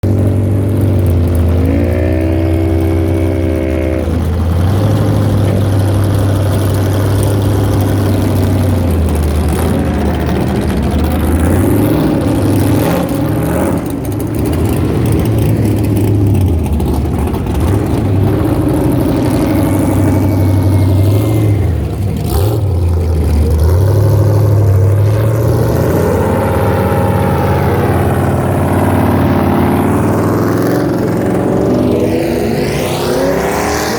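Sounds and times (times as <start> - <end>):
off-road vehicle engine revving: 0.0 - 33.9.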